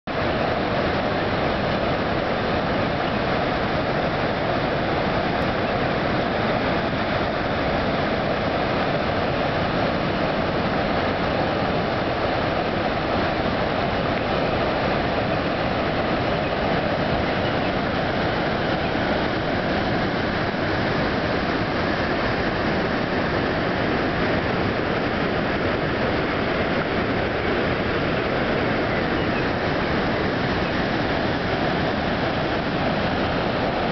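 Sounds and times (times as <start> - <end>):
waterfall rushing water: 0.1 - 33.9.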